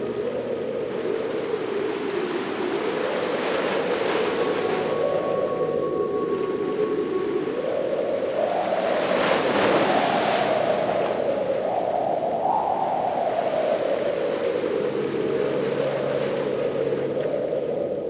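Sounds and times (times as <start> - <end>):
constant moaning tone: 0.0 - 18.0
ocean waves washing in: 0.0 - 18.0.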